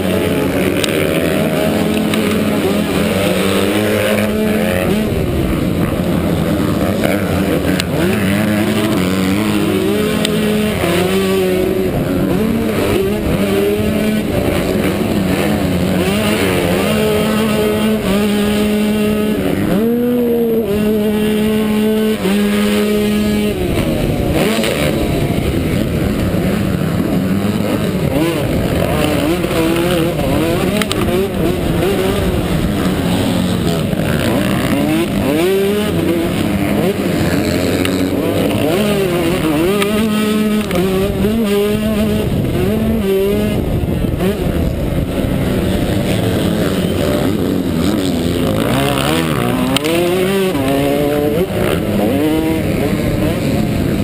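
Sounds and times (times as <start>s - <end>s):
motorcycle engine revving hard: 0.0s - 54.0s
wind rushing over microphone: 0.0s - 54.0s.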